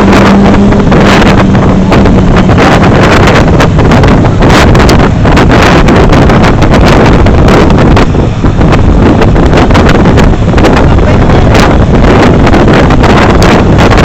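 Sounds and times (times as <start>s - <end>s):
motorcycle engines: 0.0s - 14.0s
tyres on road: 0.0s - 14.0s
wind buffeting microphone: 0.0s - 14.0s.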